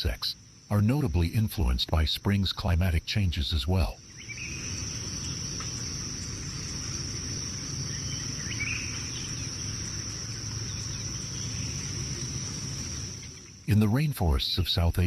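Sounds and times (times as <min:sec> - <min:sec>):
crickets trilling: 0:00.0 - 0:15.0
faint chirps: 0:00.0 - 0:15.0.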